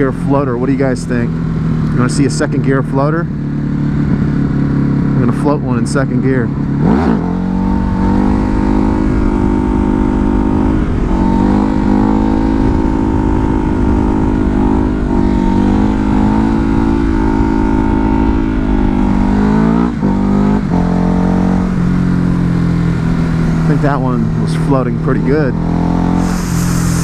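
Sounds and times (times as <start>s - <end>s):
motorcycle engine at steady throttle: 0.0s - 27.0s.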